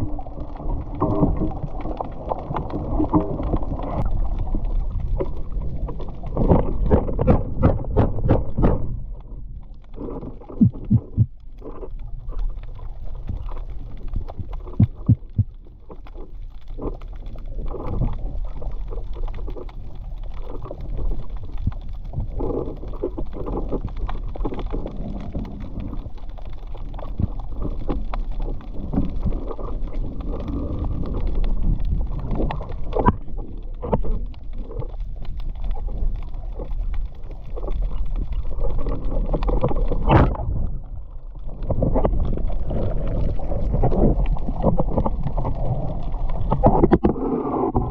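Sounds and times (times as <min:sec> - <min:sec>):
muffled water movement: 0:00.0 - 0:47.9.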